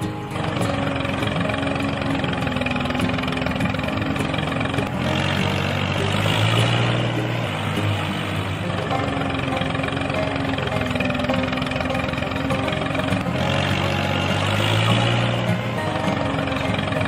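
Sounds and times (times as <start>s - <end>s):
small tractor engine running: 0.0s - 17.0s.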